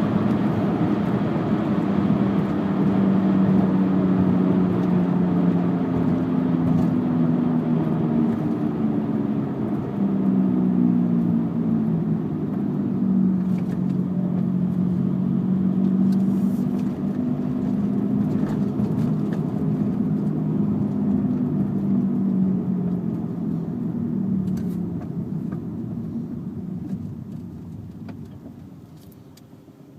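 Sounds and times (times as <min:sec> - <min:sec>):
car droning hum: 0:00.0 - 0:29.9
road noise: 0:00.0 - 0:29.9.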